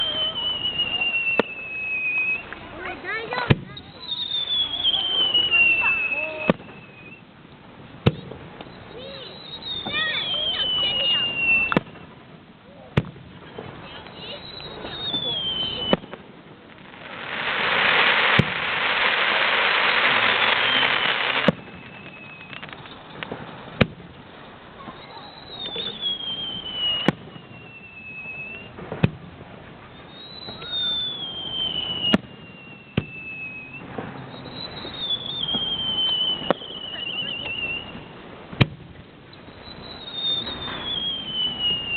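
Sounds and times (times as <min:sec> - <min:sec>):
whistling firework shells: 0:00.0 - 0:07.3, 0:08.0 - 0:12.2, 0:13.0 - 0:41.9
hissing firework crackle: 0:00.0 - 0:41.9.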